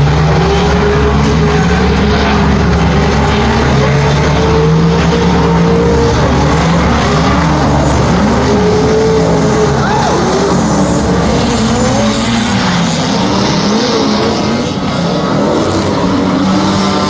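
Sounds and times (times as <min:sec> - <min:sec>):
car engines revving: 0:00.0 - 0:17.0
tyre and track noise: 0:00.0 - 0:17.0.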